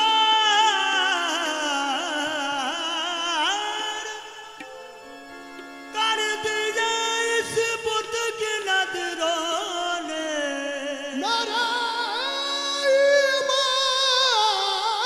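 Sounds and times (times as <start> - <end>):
steady held accompaniment: 0.0 - 15.0.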